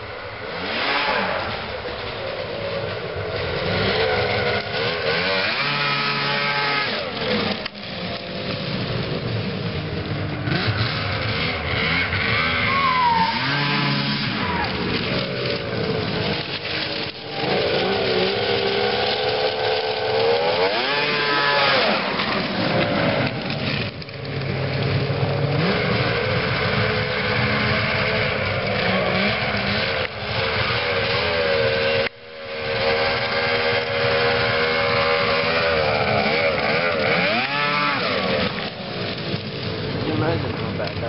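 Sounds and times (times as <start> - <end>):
snowmobile engine revving hard: 0.0 - 41.0.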